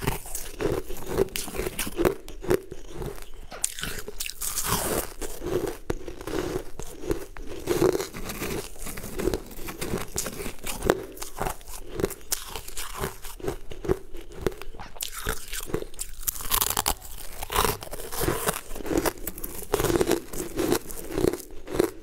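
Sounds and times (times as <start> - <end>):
crunching frozen cubes: 0.0 - 22.0.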